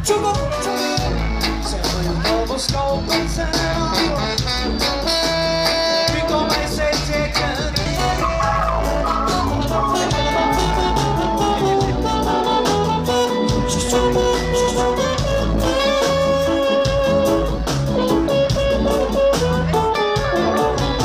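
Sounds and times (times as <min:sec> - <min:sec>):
live ska band playing: 0:00.0 - 0:21.0.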